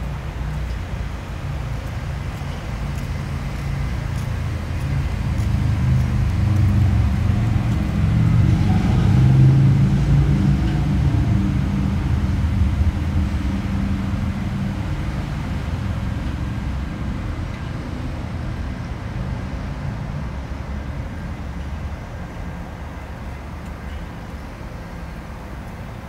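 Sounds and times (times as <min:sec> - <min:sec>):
traffic engine and road rumble: 0:00.0 - 0:26.0.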